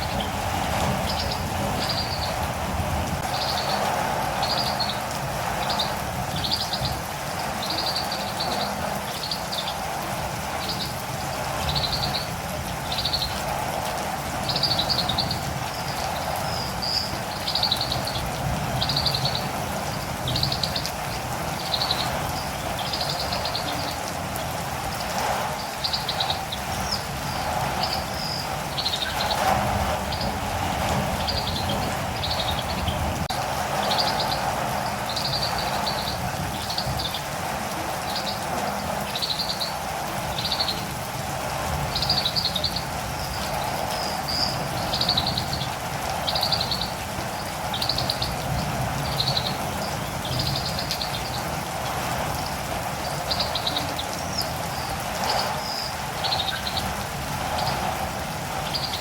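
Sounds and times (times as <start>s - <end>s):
rain hiss: 0.0s - 59.0s
bird chirping: 1.0s - 2.4s, 3.2s - 7.0s, 7.6s - 9.8s, 11.6s - 13.4s, 14.4s - 24.1s, 25.6s - 30.4s, 31.0s - 33.0s, 33.8s - 37.2s, 38.0s - 40.9s, 41.9s - 51.5s, 52.4s - 57.9s, 58.6s - 59.0s.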